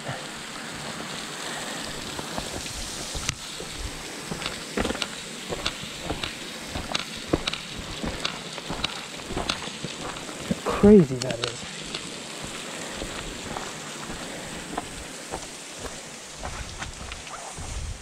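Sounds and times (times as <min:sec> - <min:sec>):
waterfall hiss: 0:00.0 - 0:18.0.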